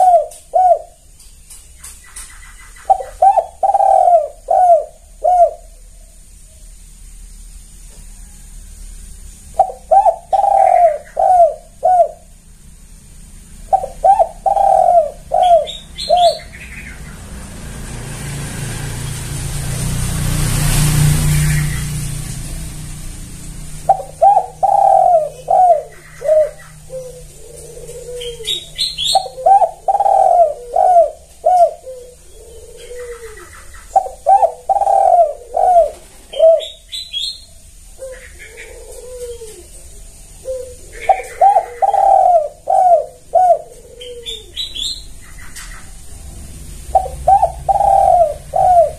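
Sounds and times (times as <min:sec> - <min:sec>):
dove cooing: 0:00.0 - 0:01.2, 0:01.8 - 0:06.7, 0:09.5 - 0:12.4, 0:13.5 - 0:18.8, 0:20.6 - 0:48.9
broad rush of noise with hum: 0:00.0 - 0:48.9.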